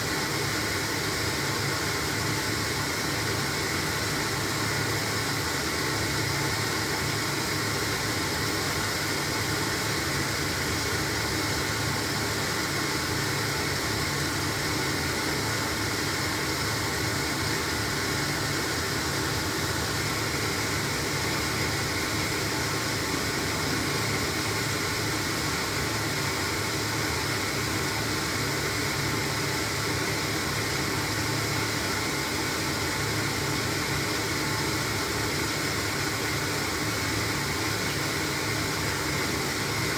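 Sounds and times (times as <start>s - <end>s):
washing machine whooshing: 0.0s - 34.0s.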